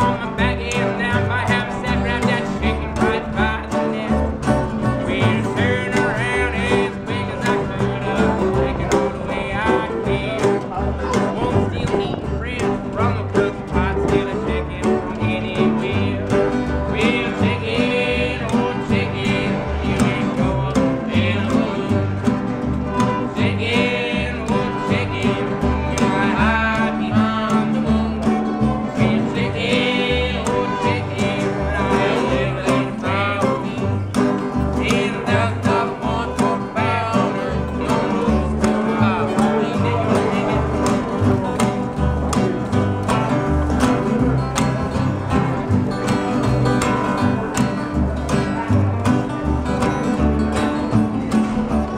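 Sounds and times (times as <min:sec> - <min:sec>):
acoustic guitars strumming: 0:00.0 - 0:51.9
fiddle: 0:00.0 - 0:51.9
slide resonator guitar: 0:00.0 - 0:51.9
upright bass plucking: 0:00.0 - 0:51.9.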